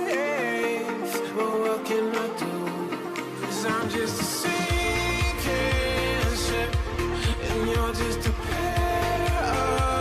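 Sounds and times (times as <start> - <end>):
pop music with bass beat: 0.0 - 10.0.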